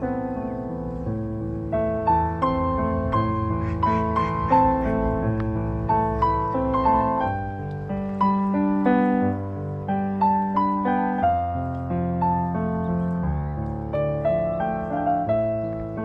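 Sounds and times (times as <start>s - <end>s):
slow gentle solo piano: 0.0s - 16.0s.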